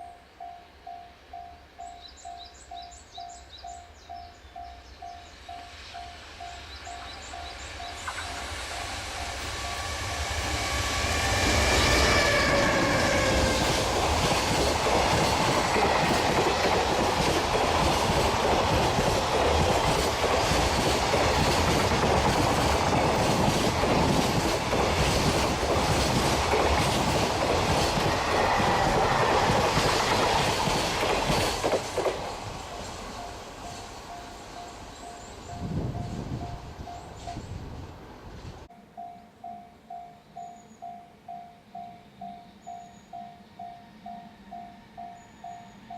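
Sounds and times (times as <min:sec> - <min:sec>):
locomotive whine: 0:04.6 - 0:45.9.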